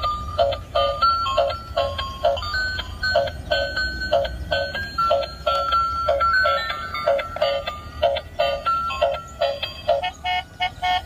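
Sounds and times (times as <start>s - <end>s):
electronic toy tune beeping: 0.0s - 11.0s.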